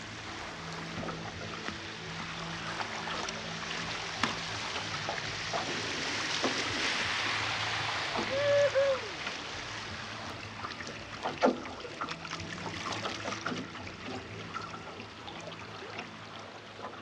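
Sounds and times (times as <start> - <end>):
paddle strokes splashing: 0.0 - 17.0
water rushing: 0.0 - 17.0.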